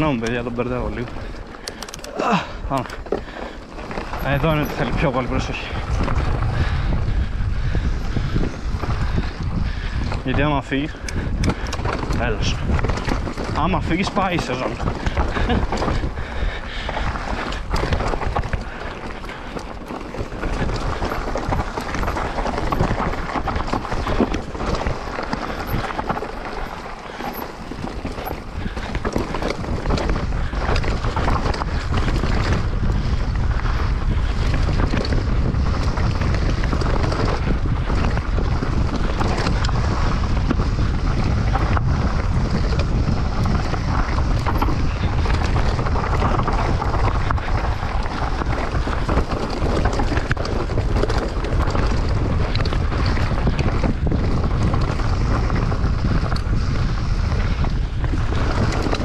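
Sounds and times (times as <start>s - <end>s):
bike clattering: 0.0s - 59.0s
tyres rolling over rock and dirt: 0.0s - 59.0s
wind buffeting microphone: 0.0s - 59.0s.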